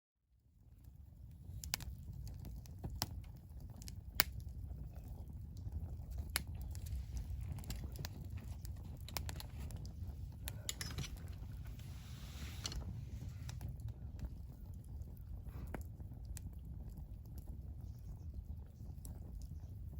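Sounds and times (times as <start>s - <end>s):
campfire crackling and popping: 0.7s - 19.9s.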